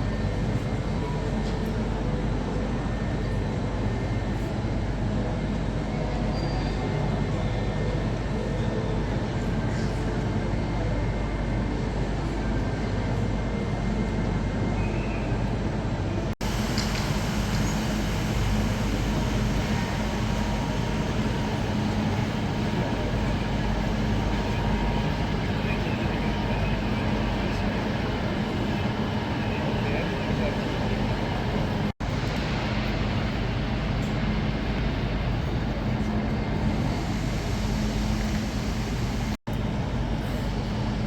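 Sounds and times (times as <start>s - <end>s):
rumble of trains and station noise: 0.0s - 41.0s.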